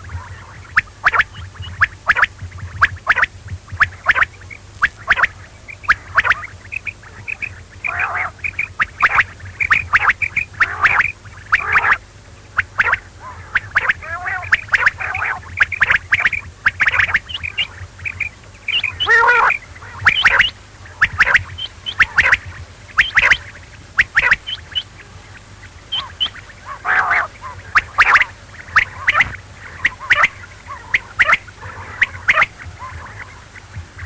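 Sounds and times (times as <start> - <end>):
quail chirping calls: 0.0 - 34.0.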